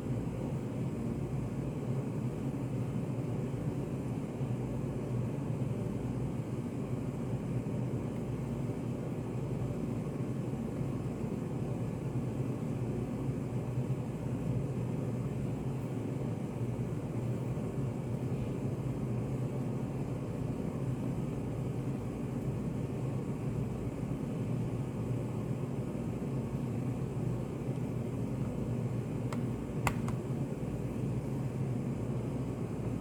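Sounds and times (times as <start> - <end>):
steady low room hum: 0.0 - 33.0.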